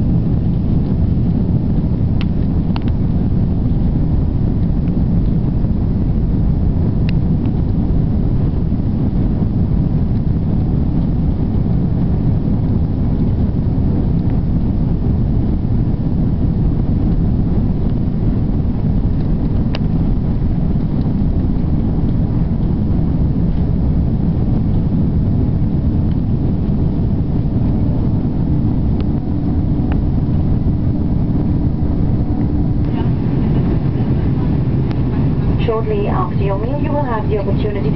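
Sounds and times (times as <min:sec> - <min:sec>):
airplane cabin engine rumble: 0:00.0 - 0:37.9
steady hum: 0:00.0 - 0:37.9.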